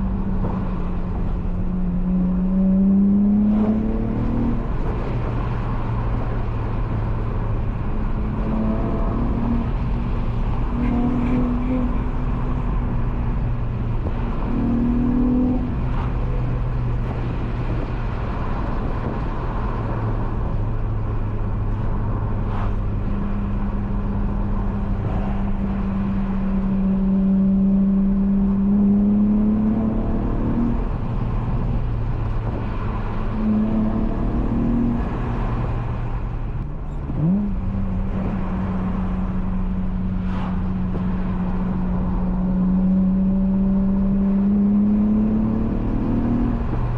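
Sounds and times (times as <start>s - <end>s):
car engine revving from cabin: 0.0s - 46.9s.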